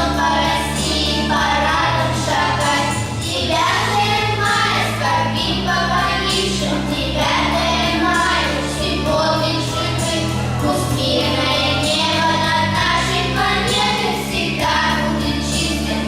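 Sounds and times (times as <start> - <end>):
instrumental accompaniment: 0.0 - 16.0
sustained bass notes: 0.0 - 16.0
vocal ensemble singing: 0.0 - 16.0.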